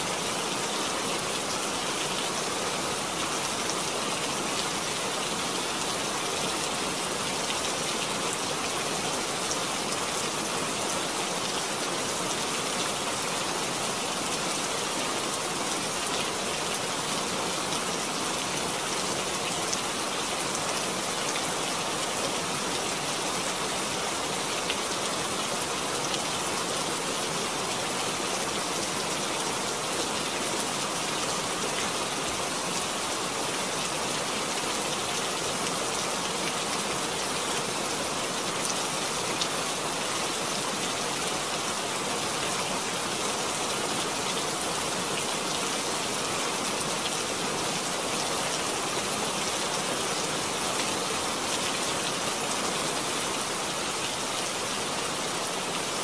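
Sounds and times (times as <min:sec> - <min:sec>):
heavy rain on standing water: 0:00.0 - 0:56.0.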